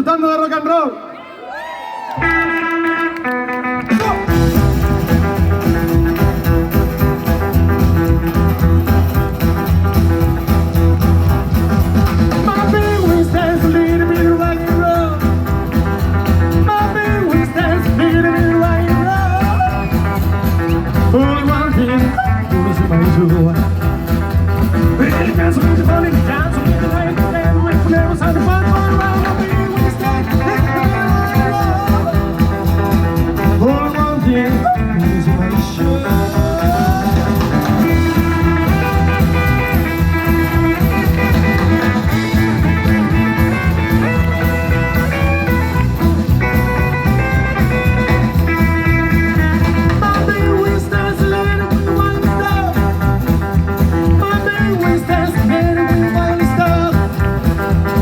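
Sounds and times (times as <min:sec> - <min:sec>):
live rockabilly band playing: 0:02.0 - 0:58.0.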